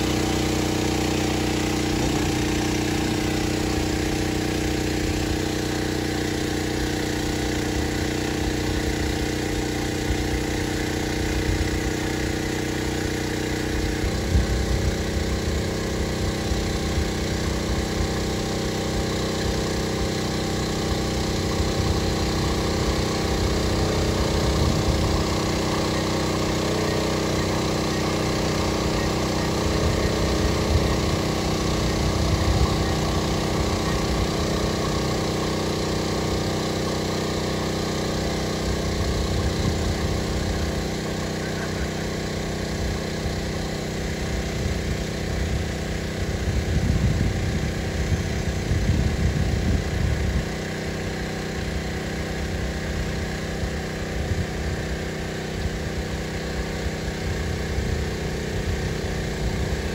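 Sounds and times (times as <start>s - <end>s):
drone rotors humming: 0.0s - 59.9s.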